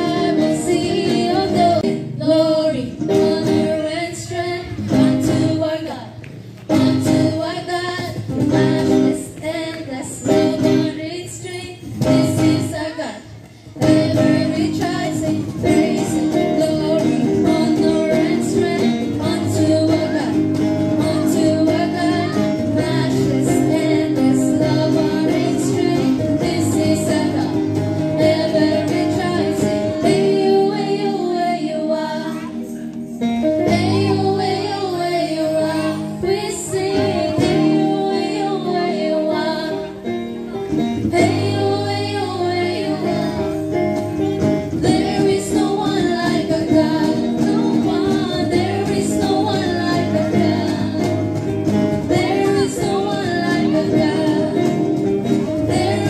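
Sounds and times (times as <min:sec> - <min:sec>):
women singing into microphones: 0:00.0 - 0:40.3, 0:40.9 - 0:43.7, 0:44.7 - 0:56.0
acoustic guitar: 0:00.0 - 0:56.0.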